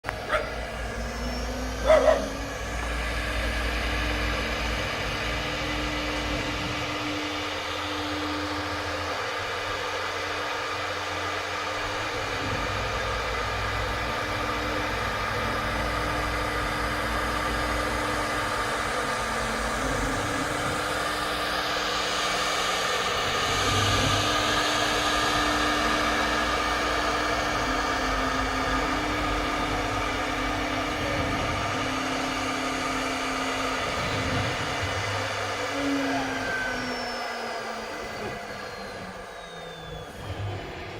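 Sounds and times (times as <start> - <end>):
cnc router hiss and hum: 0.1 - 40.9.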